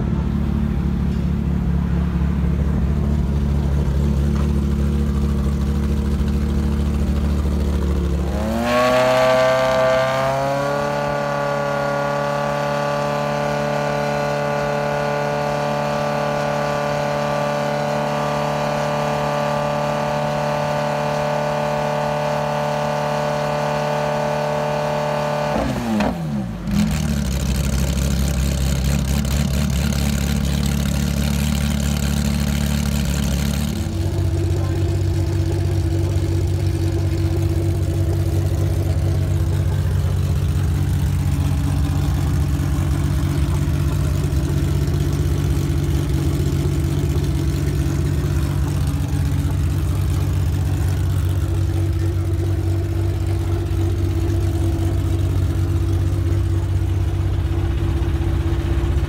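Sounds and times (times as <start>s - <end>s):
race car engine revving: 2.6s - 59.0s.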